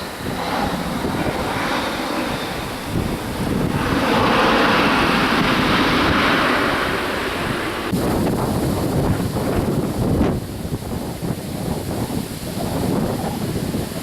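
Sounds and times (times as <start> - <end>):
jet airliner engine rushing: 0.0 - 14.0
wind buffeting microphone: 0.0 - 14.0.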